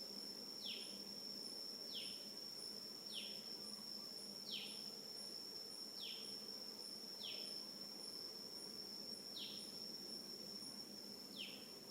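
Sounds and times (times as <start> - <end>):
faint pulsing insect sound: 0.0 - 11.9
insects droning: 0.0 - 11.9.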